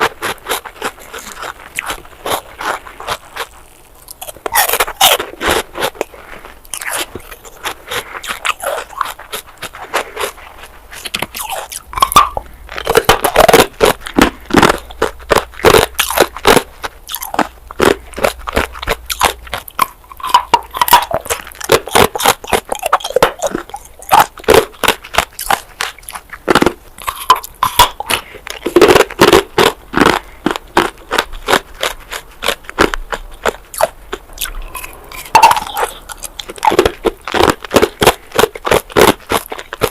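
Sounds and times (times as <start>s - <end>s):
chewing hard ice crunching: 0.0s - 39.9s.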